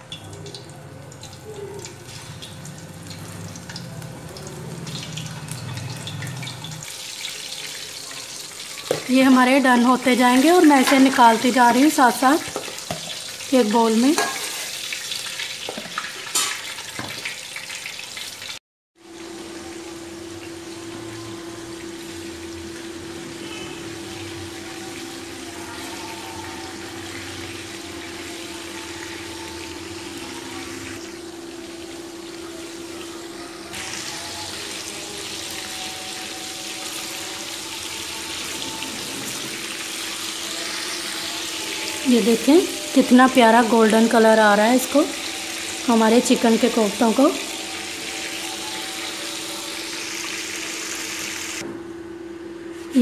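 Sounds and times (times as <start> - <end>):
food sizzling in hot oil: 0.0 - 51.6.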